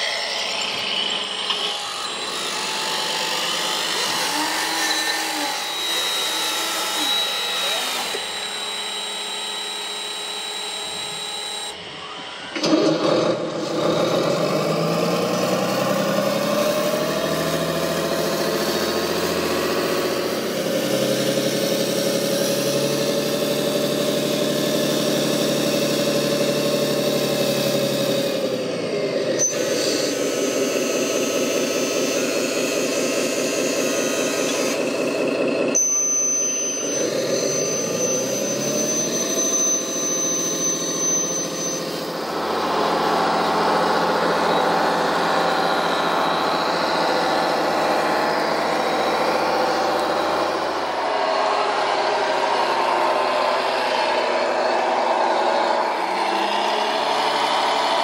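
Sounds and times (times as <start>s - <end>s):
motor running: 0.0s - 58.0s.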